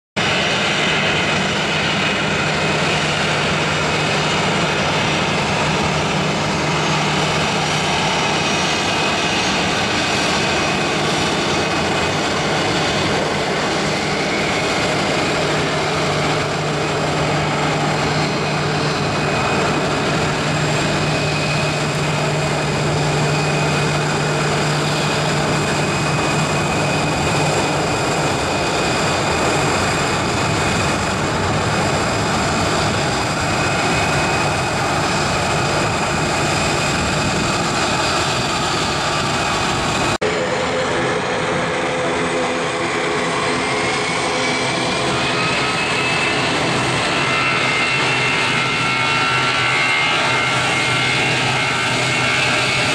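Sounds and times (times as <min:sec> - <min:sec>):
jet airliner taxiing: 0:00.2 - 0:52.9.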